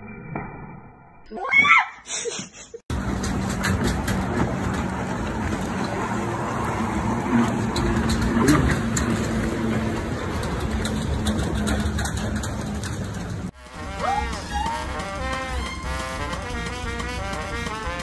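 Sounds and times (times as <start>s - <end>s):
rushing open air: 2.9s - 18.0s.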